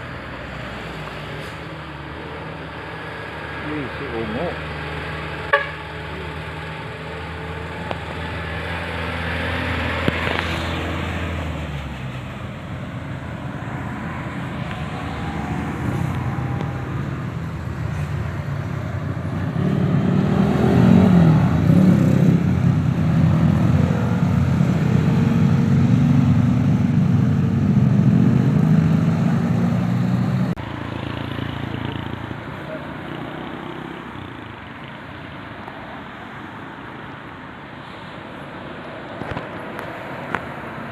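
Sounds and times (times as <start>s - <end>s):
bus diesel engine passing: 0.0s - 40.9s.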